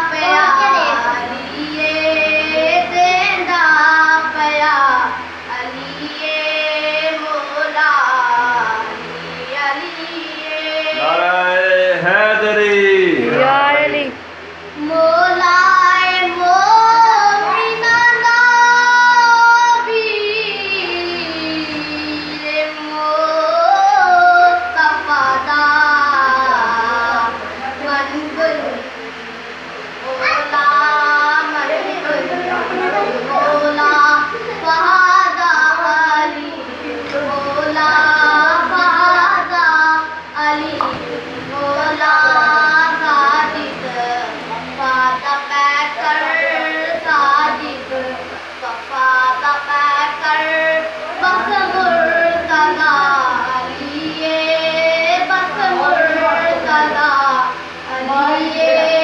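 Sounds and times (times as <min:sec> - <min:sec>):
boy singing devotional poem: 0:00.0 - 0:29.0, 0:30.0 - 0:59.0.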